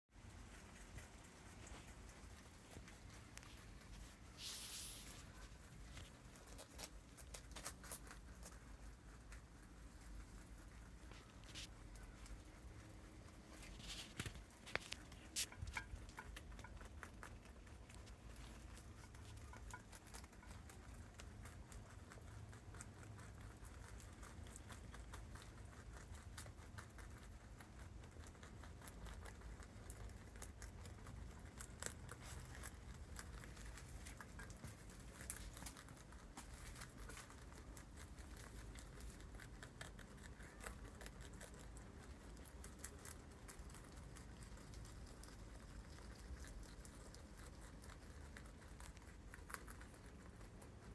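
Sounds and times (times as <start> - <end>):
rabbits chewing food: 0.1 - 50.9.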